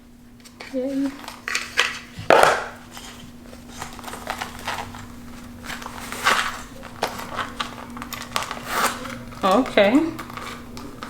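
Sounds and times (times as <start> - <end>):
paper rustling and crinkling: 0.4 - 11.0.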